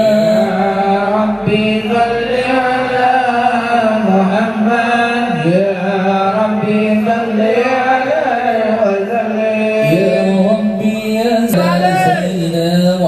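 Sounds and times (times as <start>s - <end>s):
devotional chanting through pa: 0.0s - 13.0s.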